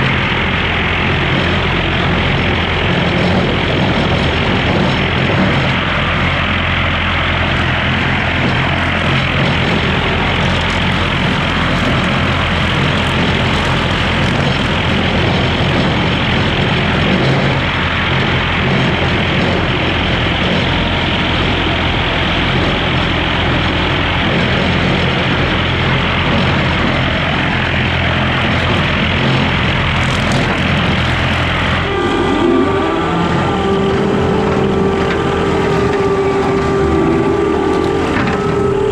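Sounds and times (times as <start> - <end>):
rotary cutter through brush: 0.0 - 21.8, 22.9 - 38.9
diesel engine running: 0.0 - 38.9
whining tone: 0.0 - 38.9.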